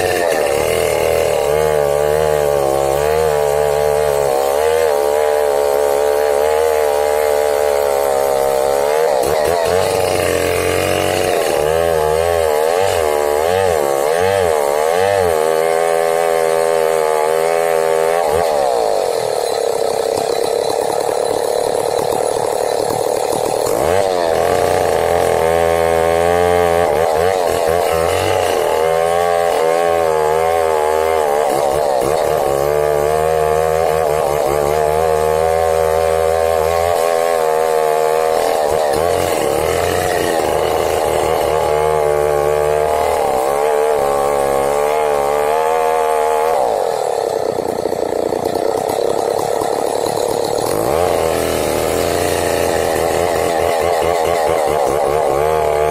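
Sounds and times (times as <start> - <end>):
chainsaw cutting tree trunk: 0.0 - 55.9.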